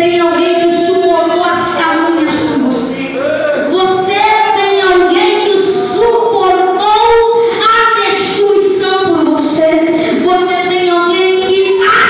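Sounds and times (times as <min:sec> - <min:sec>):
child singing into a microphone: 0:00.0 - 0:03.0, 0:03.7 - 0:12.0.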